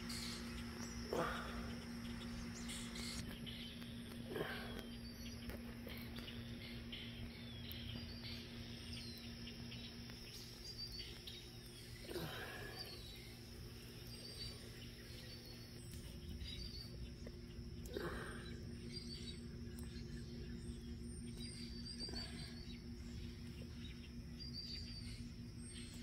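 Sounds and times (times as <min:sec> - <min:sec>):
low hum and rumble: 0:00.0 - 0:26.0
small birds chirping: 0:00.0 - 0:26.0.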